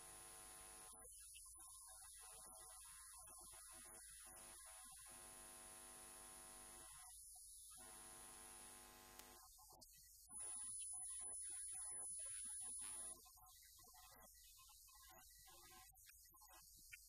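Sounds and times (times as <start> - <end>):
faint high-pitched whine: 0.0 - 17.0.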